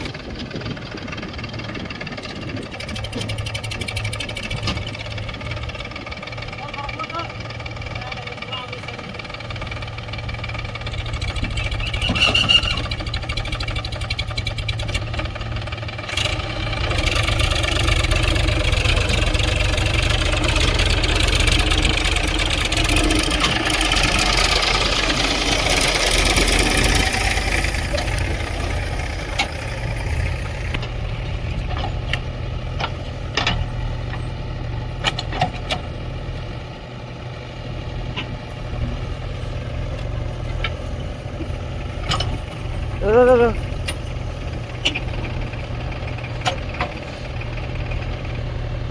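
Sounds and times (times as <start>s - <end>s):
diesel engines running: 0.0s - 48.9s.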